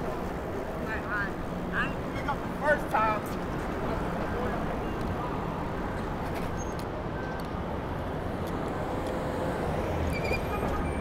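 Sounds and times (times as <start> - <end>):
passing vehicles: 0.0 - 11.0
road noise: 0.0 - 11.0.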